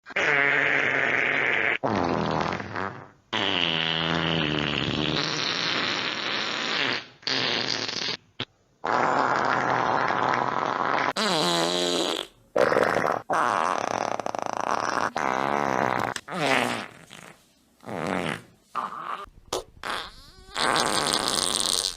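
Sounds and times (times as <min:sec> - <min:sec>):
fart sound effects: 0:00.0 - 0:21.9.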